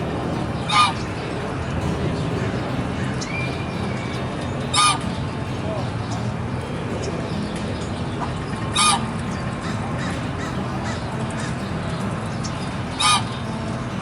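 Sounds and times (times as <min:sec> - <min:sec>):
goose honking: 0:00.0 - 0:14.0.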